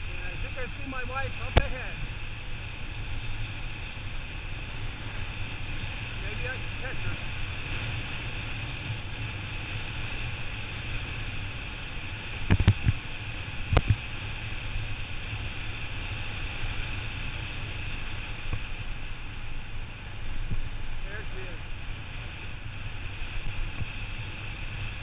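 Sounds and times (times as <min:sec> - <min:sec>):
wind and road rush: 0:00.0 - 0:25.0.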